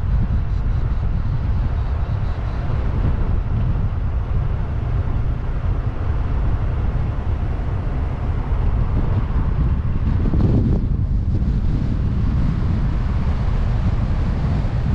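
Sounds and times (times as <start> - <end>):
car road and engine noise: 0.0 - 14.9
wind buffeting microphone: 0.0 - 14.9.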